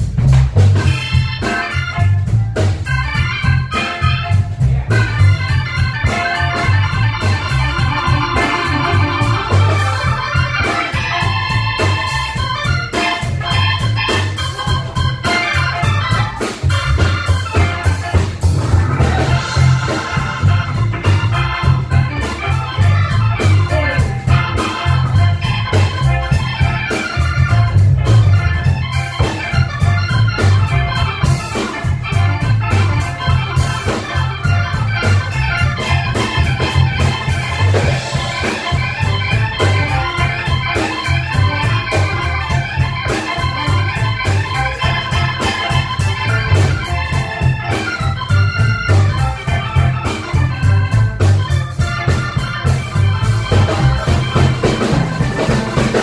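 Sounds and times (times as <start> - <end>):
electric guitar: 0.0 - 56.0
organ-toned keyboard: 0.0 - 56.0
pulsing bass line: 0.0 - 56.0
saxophones: 0.8 - 56.0.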